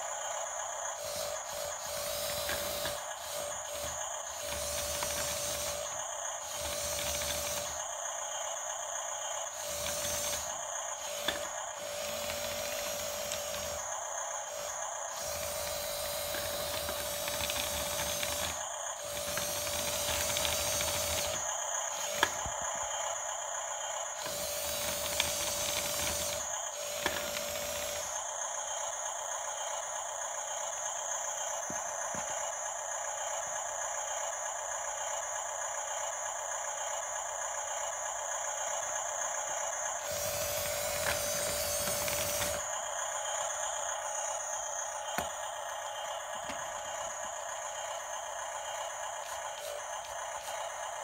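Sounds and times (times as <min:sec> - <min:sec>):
toy motors and gears whirring: 0:00.0 - 0:51.0.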